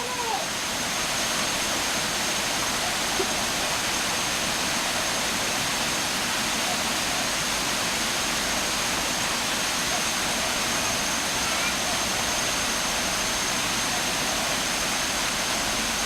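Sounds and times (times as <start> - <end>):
falling water rushing: 0.0 - 16.0.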